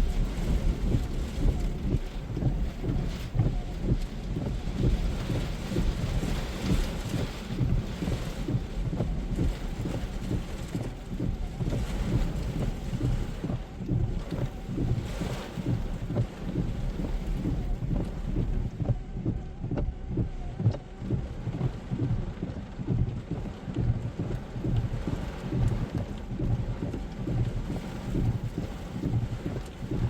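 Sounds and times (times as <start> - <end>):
rain hissing: 0.0 - 30.0
raindrops ticking: 0.0 - 30.0.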